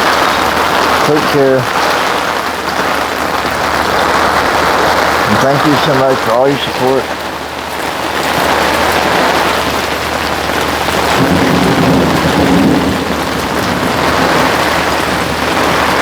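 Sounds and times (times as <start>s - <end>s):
heavy rain on umbrella: 0.0s - 16.0s
low rumble of thunder: 0.0s - 16.0s.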